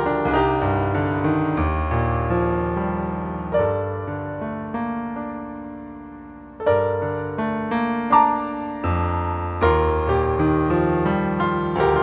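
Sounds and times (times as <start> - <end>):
slow solo piano chords: 0.0 - 12.0.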